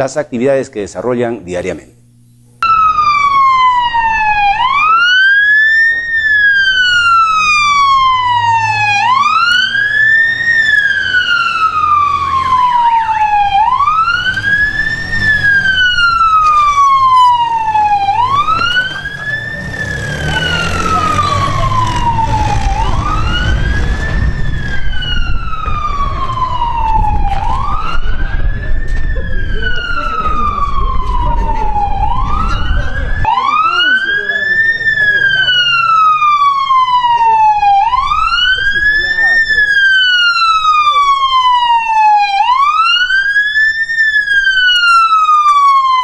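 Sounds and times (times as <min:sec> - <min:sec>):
engines and road noise: 0:02.0 - 0:46.0
wailing siren: 0:02.6 - 0:46.0.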